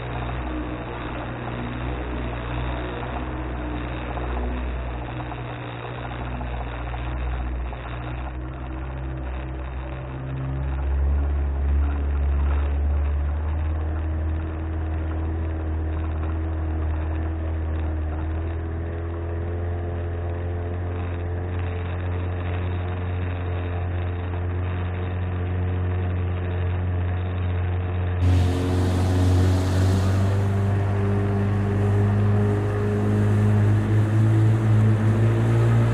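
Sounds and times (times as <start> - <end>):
outboard motor running: 0.0 - 35.9.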